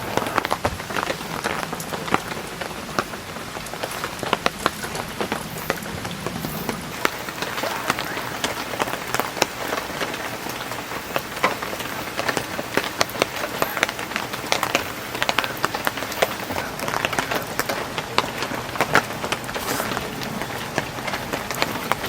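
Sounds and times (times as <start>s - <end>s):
heavy rain falling: 0.0s - 22.0s
raindrops ticking on a surface: 0.0s - 22.0s.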